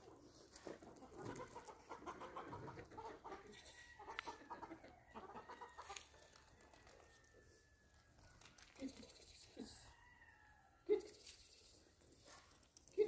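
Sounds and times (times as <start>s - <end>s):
faint farm animal calls: 0.1s - 12.0s.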